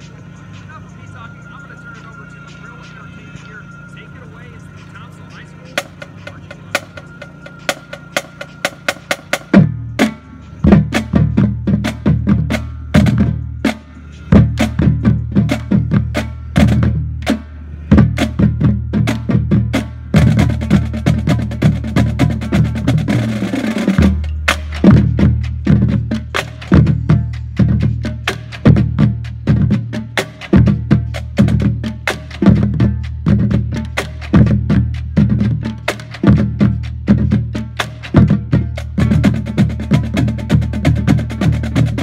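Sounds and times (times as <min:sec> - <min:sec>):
drumline playing cadence: 0:00.0 - 0:42.0.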